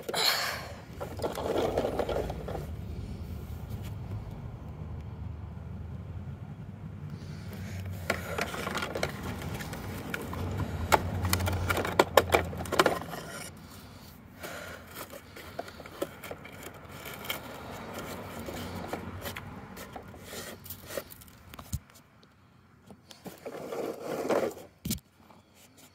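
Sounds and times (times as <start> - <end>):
plastic toys scraping on dirt: 0.6 - 4.0, 7.2 - 21.8, 23.0 - 25.9.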